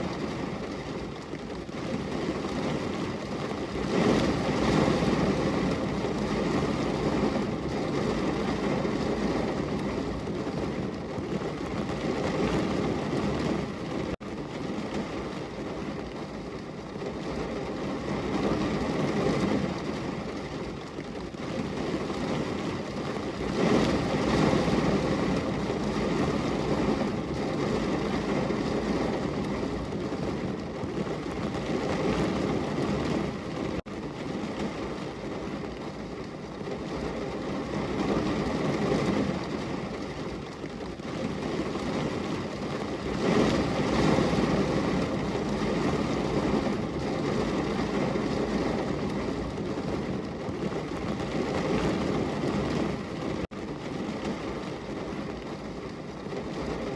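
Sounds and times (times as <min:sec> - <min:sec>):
heavy rain on a window: 0:00.0 - 0:56.9.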